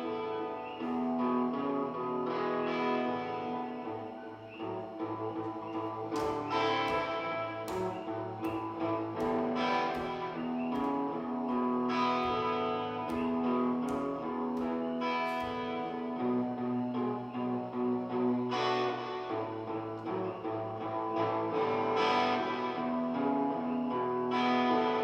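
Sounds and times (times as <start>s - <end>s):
electric guitar playing blues: 0.0s - 25.0s.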